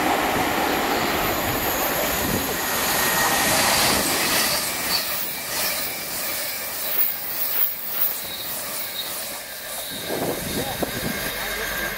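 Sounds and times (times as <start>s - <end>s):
train rushing past: 0.0s - 11.9s.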